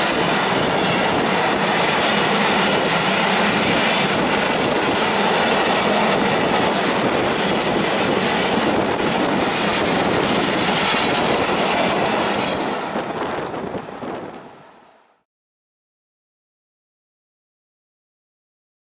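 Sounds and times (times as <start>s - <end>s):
freight train wheels rushing on rails: 0.0s - 15.2s.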